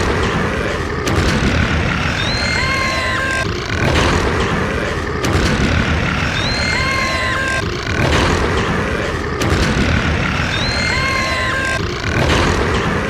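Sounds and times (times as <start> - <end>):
distorted burp: 0.0 - 13.0.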